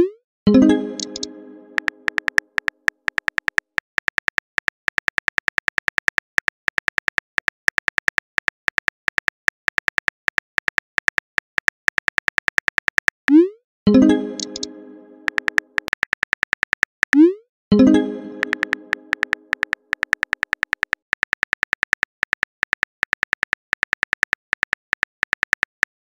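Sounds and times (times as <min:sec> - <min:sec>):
phone keyboard typing clicks: 0:00.9 - 0:13.3, 0:14.3 - 0:17.2, 0:17.9 - 0:26.0.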